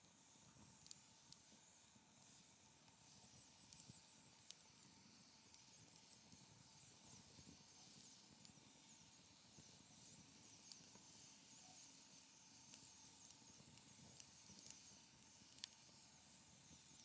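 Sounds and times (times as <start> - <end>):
wood fire crackling: 0.5 - 17.0.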